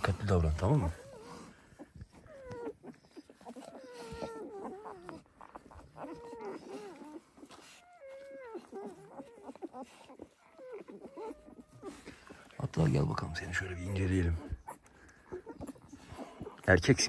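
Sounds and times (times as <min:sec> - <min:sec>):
puppies whimpering: 0:00.0 - 0:17.0.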